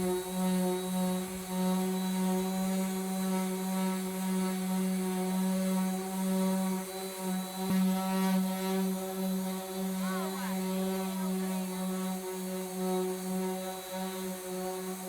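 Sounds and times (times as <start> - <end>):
electric power sander running: 0.0 - 15.0.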